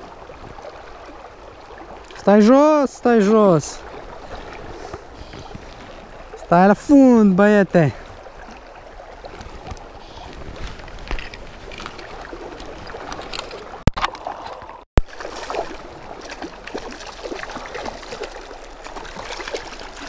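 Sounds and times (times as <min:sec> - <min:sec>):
river water rushing and splashing: 0:00.0 - 0:20.0.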